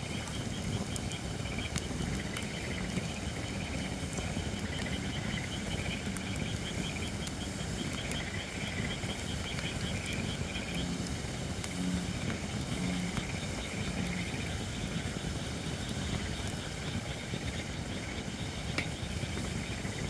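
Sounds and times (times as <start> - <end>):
bullfrogs croaking: 0.0 - 20.0
firewood crackling: 0.0 - 20.0
frogs trilling: 0.0 - 20.0.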